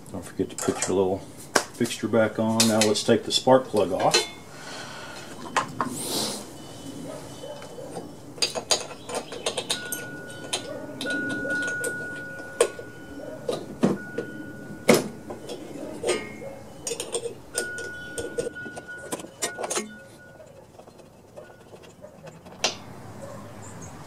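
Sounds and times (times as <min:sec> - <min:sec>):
metal tools clinking: 0:00.4 - 0:01.2, 0:02.5 - 0:04.5, 0:05.1 - 0:23.4.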